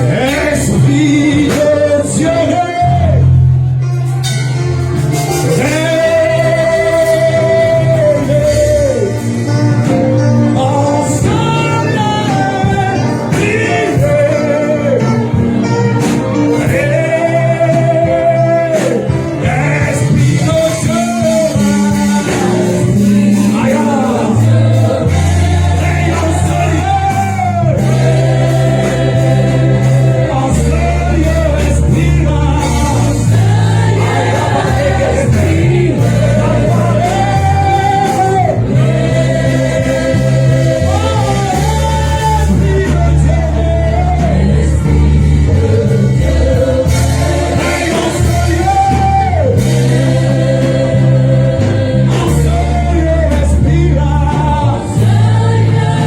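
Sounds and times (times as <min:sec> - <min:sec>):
band with heavy bass line: 0:00.0 - 0:56.0
voices singing gospel: 0:00.0 - 0:56.0.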